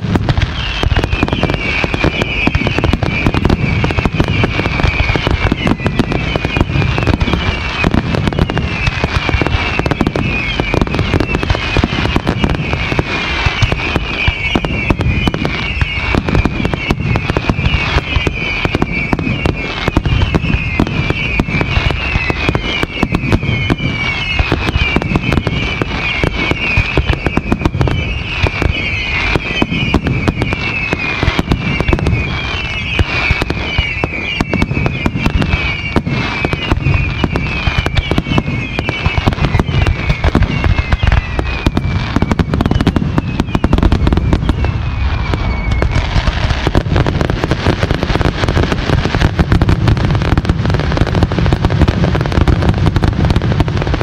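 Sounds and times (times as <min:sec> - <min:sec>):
falling fireworks whistles: 0:00.0 - 0:54.0
fireworks bangs: 0:00.0 - 0:54.0.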